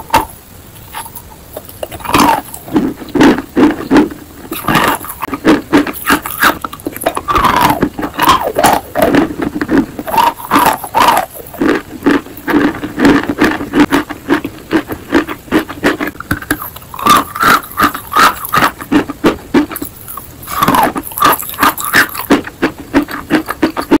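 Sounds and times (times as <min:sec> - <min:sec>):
chalk crunching while chewing: 0:00.9 - 0:24.0.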